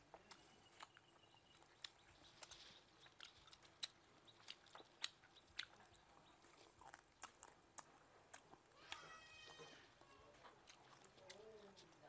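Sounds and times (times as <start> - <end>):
wet chewing mouth clicks: 0.0 - 9.1, 9.8 - 12.0.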